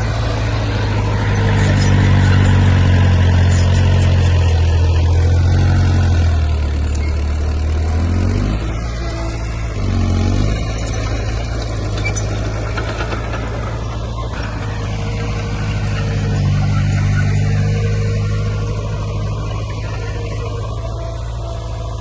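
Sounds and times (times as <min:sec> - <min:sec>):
heavy diesel engine clattering: 0:00.0 - 0:22.0.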